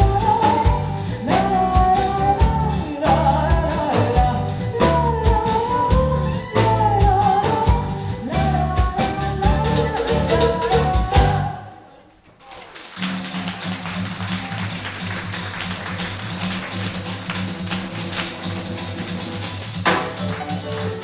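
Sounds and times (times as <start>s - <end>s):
live rock band playing: 0.0s - 11.6s, 13.8s - 21.0s.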